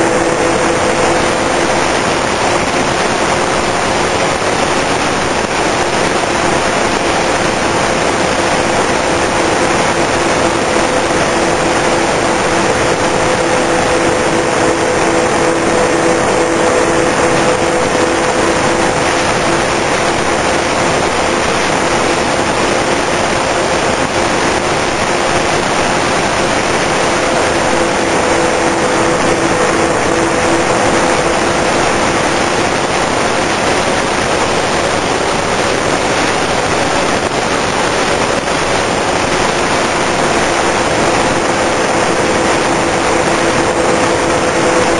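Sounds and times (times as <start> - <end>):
electric motors humming: 0.0 - 36.0, 38.2 - 44.9
wind rush: 0.0 - 44.9.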